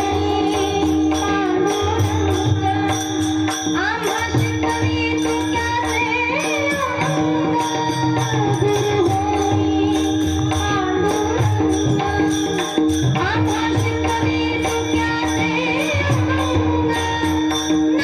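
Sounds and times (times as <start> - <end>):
steady held drone: 0.0 - 18.0
woman singing: 0.0 - 18.0.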